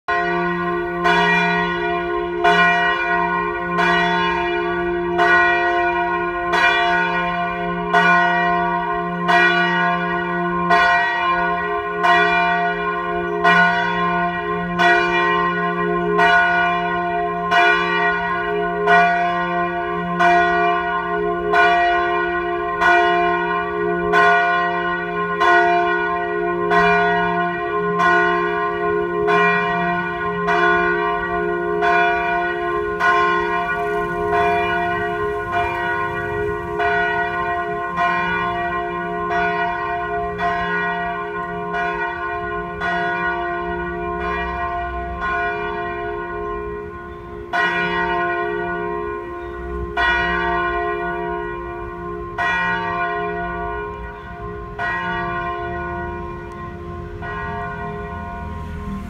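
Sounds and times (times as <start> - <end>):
church bells ringing: 0.1 - 59.0.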